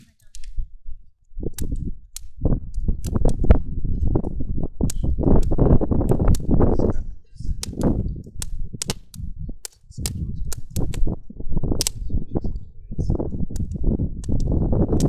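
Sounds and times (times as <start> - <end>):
campfire wood crackling: 0.0 - 12.2, 13.1 - 15.0
low rumbling noise: 0.5 - 15.0.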